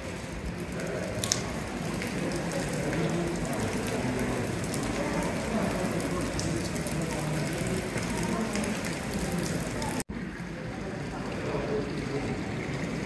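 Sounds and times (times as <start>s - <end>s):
distant crowd chatter: 0.0s - 13.0s.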